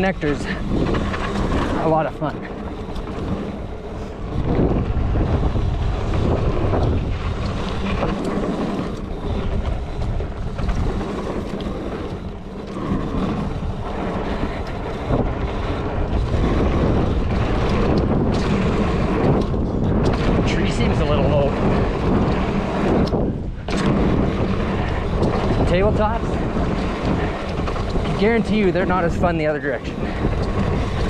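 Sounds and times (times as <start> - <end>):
bike rumbling and rattling: 0.0 - 31.0
wind buffeting microphone: 0.0 - 31.0.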